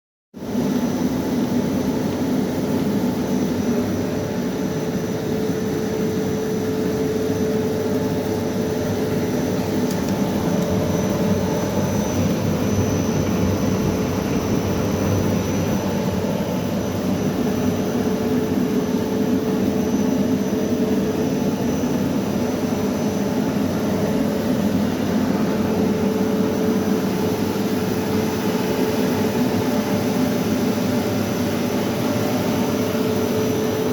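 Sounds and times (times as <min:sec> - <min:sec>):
faint high whine: 0:00.4 - 0:33.9
machine droning: 0:00.5 - 0:33.9.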